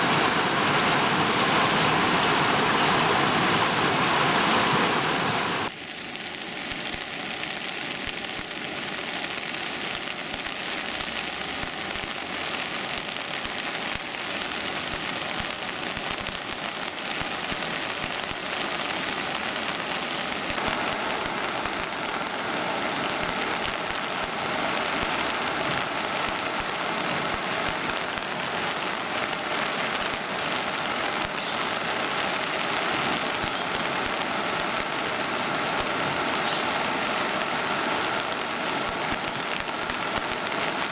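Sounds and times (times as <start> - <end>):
rushing floodwater: 0.0 - 5.7, 6.4 - 40.9.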